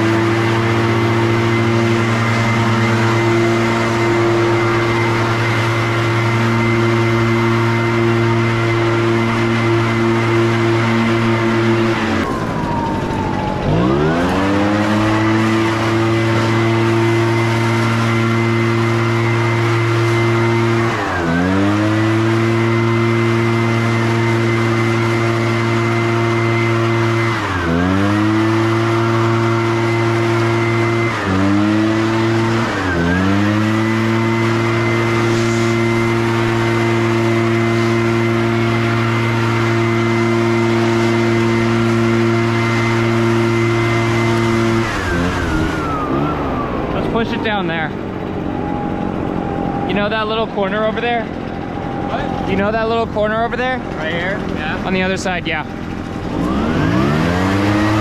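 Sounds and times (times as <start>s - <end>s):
leaf blower engine revving: 0.0s - 58.0s.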